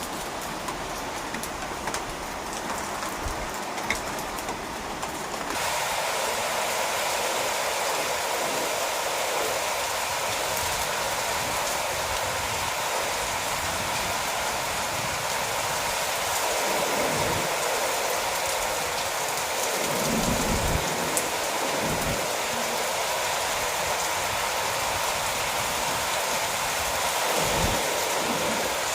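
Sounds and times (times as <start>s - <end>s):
heavy rain pouring: 0.0s - 28.9s.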